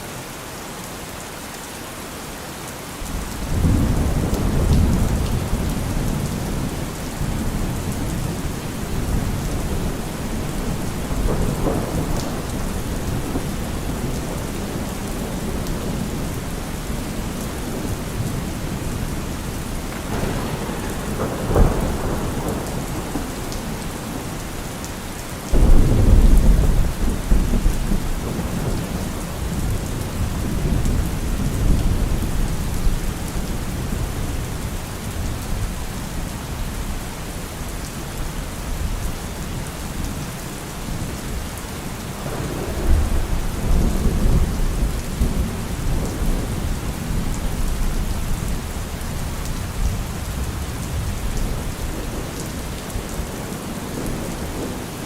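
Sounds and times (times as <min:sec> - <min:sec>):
steady rain: 0:00.0 - 0:55.0
thunder rumbling and cracking: 0:03.1 - 0:35.8, 0:40.9 - 0:55.0.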